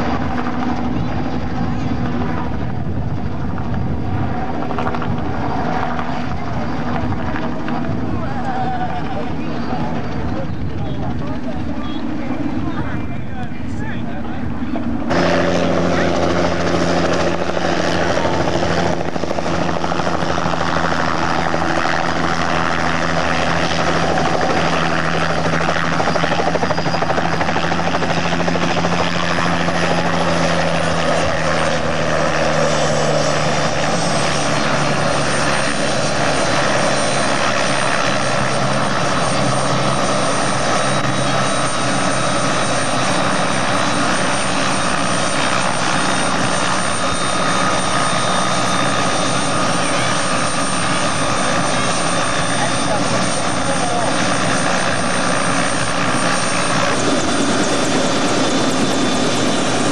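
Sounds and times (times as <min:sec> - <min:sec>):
helicopter rotor blade chop: 0:00.0 - 0:59.9.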